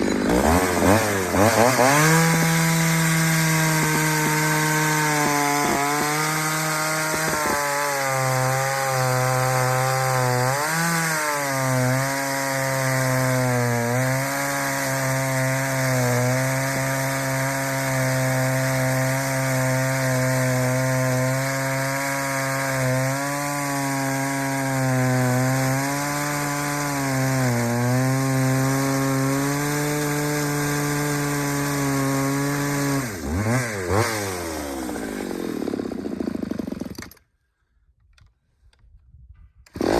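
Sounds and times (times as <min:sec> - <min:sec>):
chainsaw cutting wood: 0:00.0 - 0:37.4, 0:39.7 - 0:39.9.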